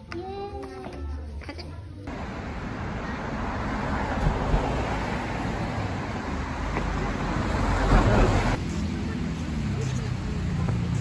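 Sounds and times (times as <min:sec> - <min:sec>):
traffic rumble and hiss: 0:02.1 - 0:11.0.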